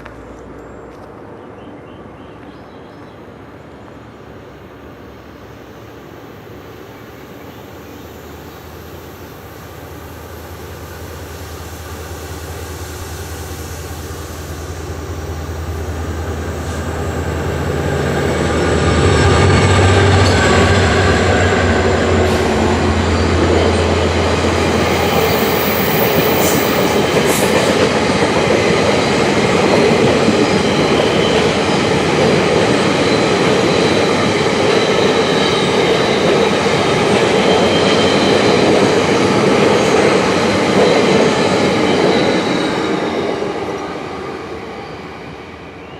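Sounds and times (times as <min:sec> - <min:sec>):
locomotive engine drone: 0:03.3 - 0:45.9.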